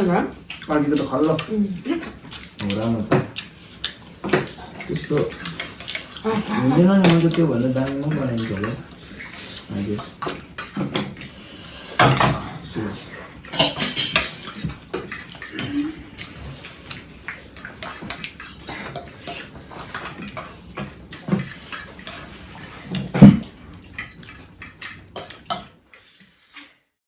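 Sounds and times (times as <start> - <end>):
cutlery and dishes clinking: 0.5 - 6.2, 6.8 - 11.3, 11.9 - 26.5.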